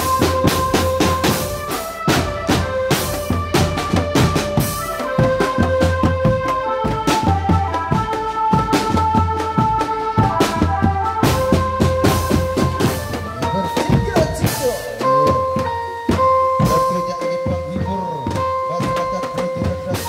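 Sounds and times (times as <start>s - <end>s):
drums in driving rhythm: 0.0s - 20.0s
electronic keyboard melody: 0.0s - 20.0s.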